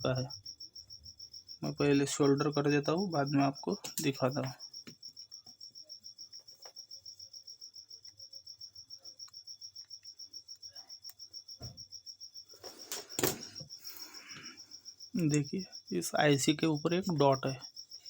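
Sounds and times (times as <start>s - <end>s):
cricket chirping: 0.0s - 18.0s.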